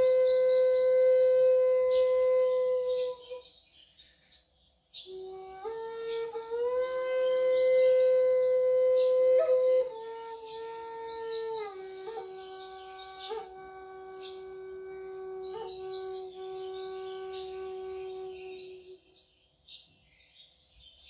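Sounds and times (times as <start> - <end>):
flute playing long notes: 0.0 - 3.4, 5.1 - 19.0.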